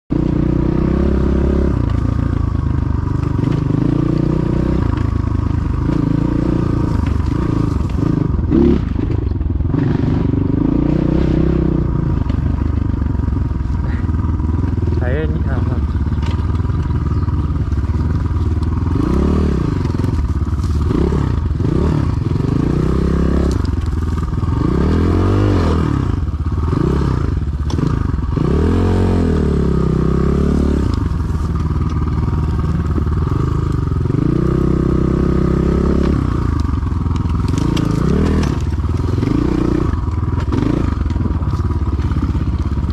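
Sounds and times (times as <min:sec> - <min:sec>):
dirt bike engine revving: 0:00.1 - 0:42.9.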